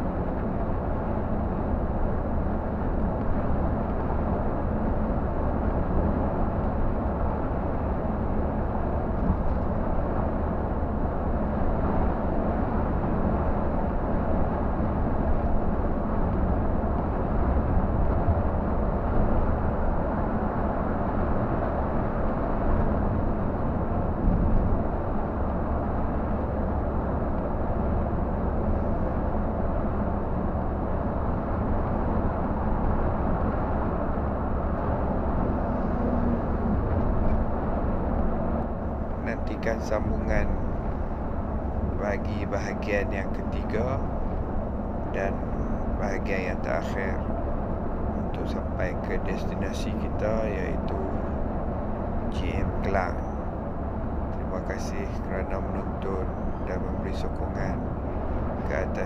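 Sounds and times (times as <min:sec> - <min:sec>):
diesel engine droning: 0:00.0 - 0:59.0
road and tyre noise: 0:00.0 - 0:59.0.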